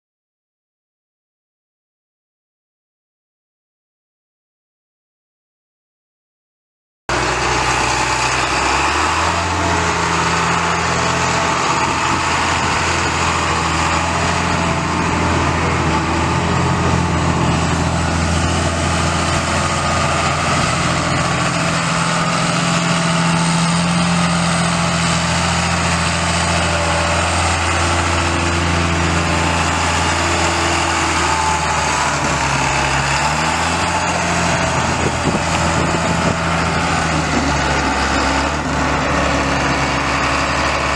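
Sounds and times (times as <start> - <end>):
tractor diesel engine running: 7.1 - 40.9.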